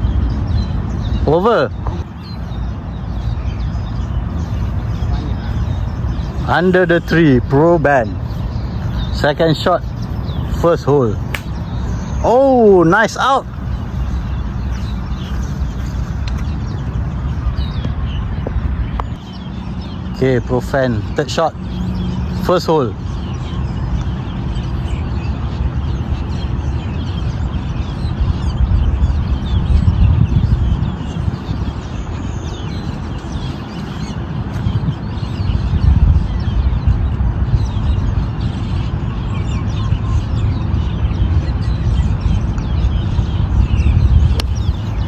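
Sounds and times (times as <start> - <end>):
birds chirping faintly: 0.0 - 45.0
steady low rumble: 0.0 - 45.0.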